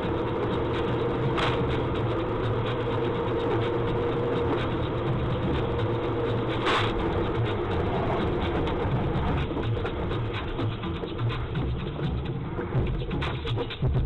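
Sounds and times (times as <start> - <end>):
vehicle running with road noise: 0.0 - 14.0.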